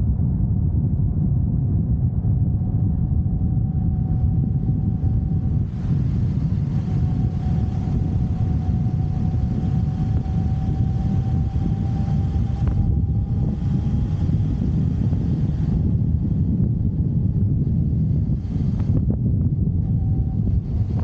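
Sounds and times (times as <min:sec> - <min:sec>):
motorcycle engine rumble: 0:00.0 - 0:21.0
thin steady whine: 0:00.0 - 0:21.0
wind on microphone: 0:00.0 - 0:21.0.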